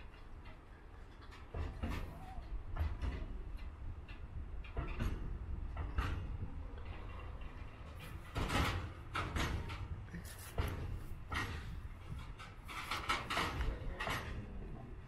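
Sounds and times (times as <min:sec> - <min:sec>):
metallic clanks and knocks: 0:00.0 - 0:14.7
train wheels rumbling on rail: 0:00.0 - 0:15.0.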